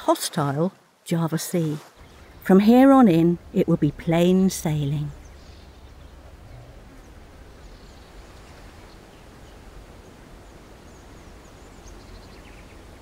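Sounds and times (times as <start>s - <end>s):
steady low rumble: 2.0s - 13.0s.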